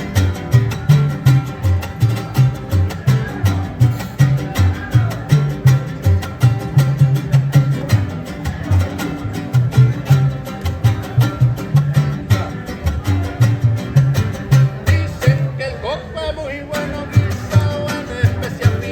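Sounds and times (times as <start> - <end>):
bass line: 0.0 - 18.9
plucked guitar: 0.0 - 18.9.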